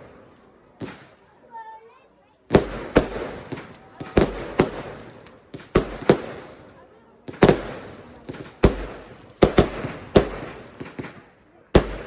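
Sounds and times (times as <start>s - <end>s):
fireworks bangs echoing: 0.0s - 1.6s, 2.4s - 12.0s.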